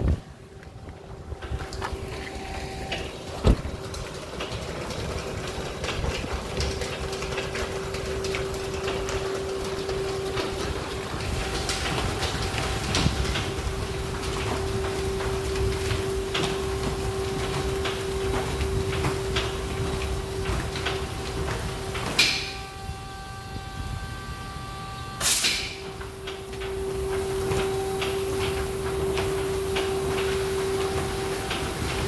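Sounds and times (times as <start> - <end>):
car wash motor hum: 0.0 - 32.0.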